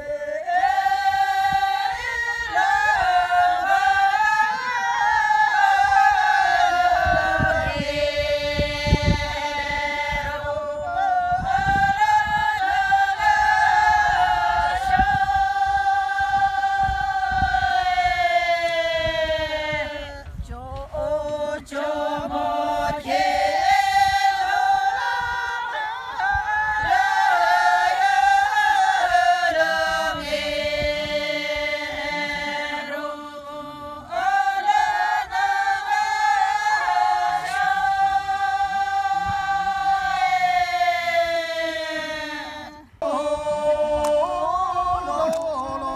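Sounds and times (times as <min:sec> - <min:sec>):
women singing unaccompanied: 0:00.0 - 0:45.9.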